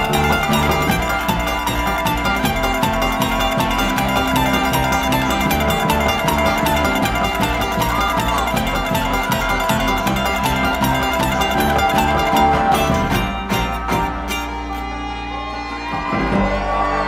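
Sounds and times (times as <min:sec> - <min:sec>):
acoustic guitar: 0:00.0 - 0:17.0
banjo: 0:00.0 - 0:17.0
mandolin: 0:00.0 - 0:17.0
upright bass: 0:00.0 - 0:17.0.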